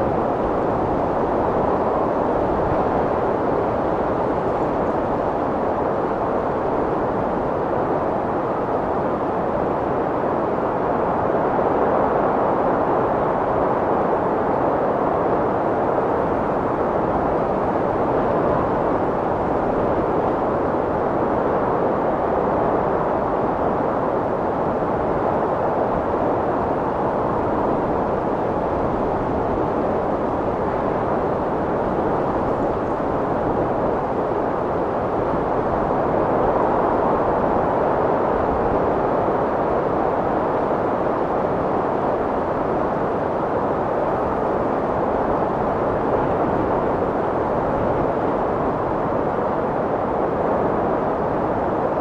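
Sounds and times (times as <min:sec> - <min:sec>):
strong wind blowing: 0:00.0 - 0:52.0.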